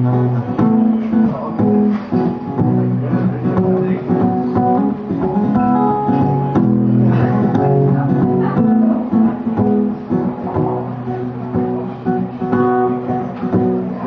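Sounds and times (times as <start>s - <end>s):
guitar plucked and strummed: 0.0s - 14.0s.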